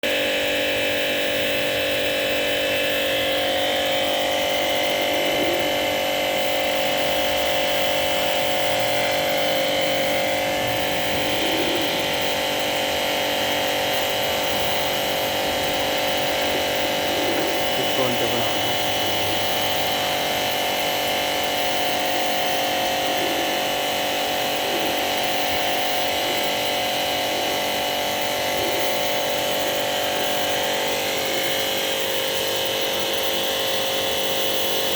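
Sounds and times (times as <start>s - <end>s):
small electric motor whining: 0.0s - 34.9s.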